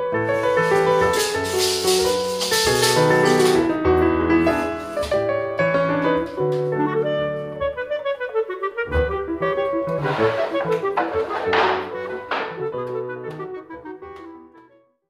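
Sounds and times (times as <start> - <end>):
piano background music: 0.0 - 14.9.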